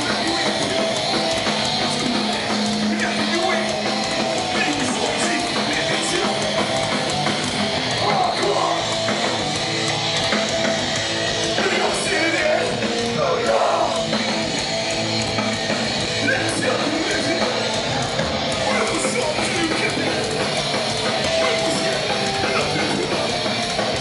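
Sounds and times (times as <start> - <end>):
punk band playing live: 0.0 - 24.0
strummed electric guitars: 0.0 - 24.0.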